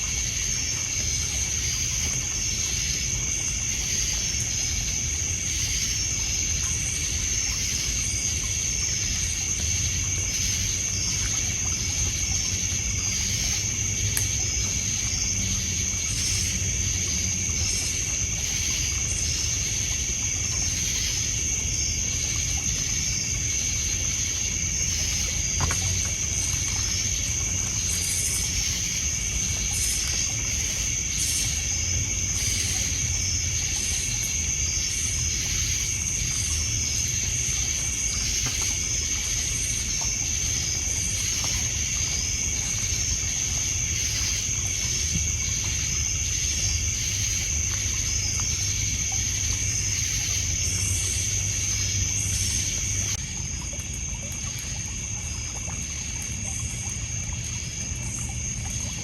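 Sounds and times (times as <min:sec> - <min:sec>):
crickets and insects trilling: 0:00.0 - 0:59.0
water lapping: 0:00.0 - 0:59.0.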